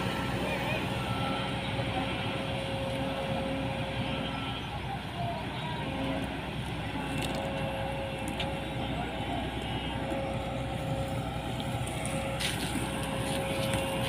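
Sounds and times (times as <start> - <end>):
diesel engine rumbling: 0.0 - 14.0
thin steady whine: 0.0 - 14.0.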